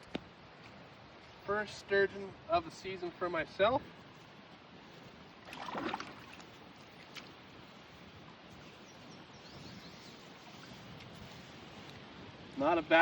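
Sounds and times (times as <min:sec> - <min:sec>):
faint outdoor river noise: 0:00.0 - 0:13.0
rustle: 0:00.0 - 0:13.0.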